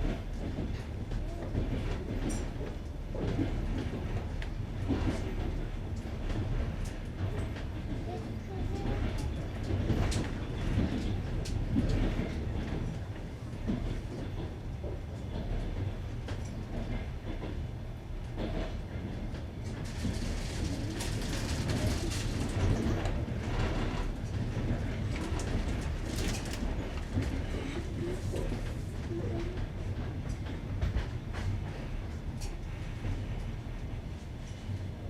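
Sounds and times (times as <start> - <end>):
train rumble: 0.0 - 35.0
train wheels clickety-clack: 0.0 - 35.0.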